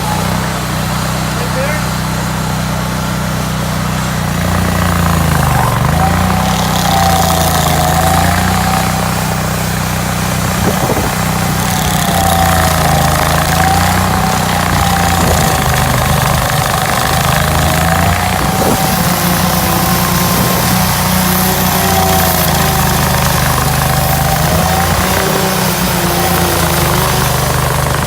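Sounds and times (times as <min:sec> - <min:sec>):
stump grinder engine under load: 0:00.0 - 0:28.0.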